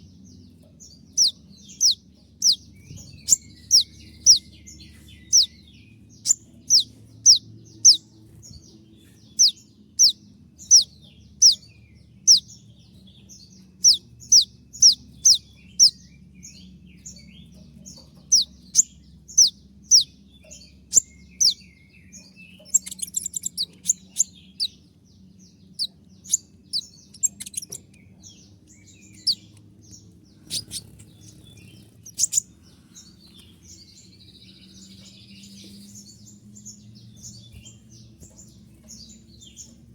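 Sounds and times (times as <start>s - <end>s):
bird twittering run: 0.0s - 39.9s.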